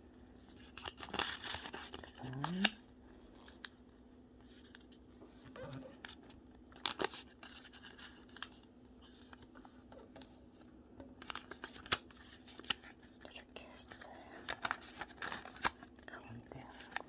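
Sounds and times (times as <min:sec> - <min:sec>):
paper rustling and crinkling: 0:00.4 - 0:03.8, 0:04.4 - 0:10.3, 0:11.2 - 0:13.2, 0:14.3 - 0:17.0.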